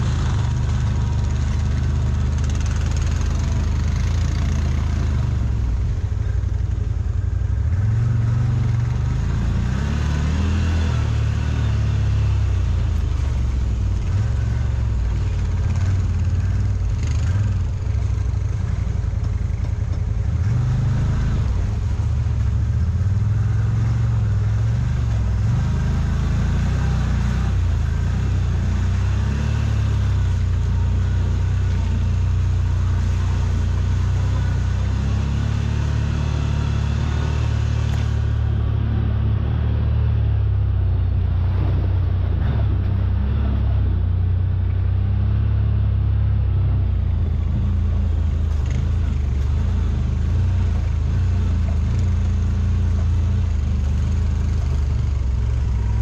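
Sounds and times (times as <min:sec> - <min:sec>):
engine revving while driving: 0:00.0 - 0:56.0.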